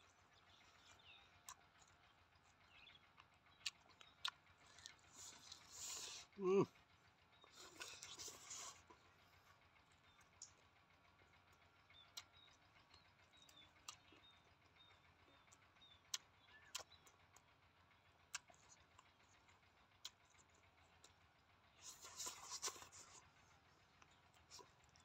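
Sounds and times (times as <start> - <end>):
chewing: 0.0 - 25.0.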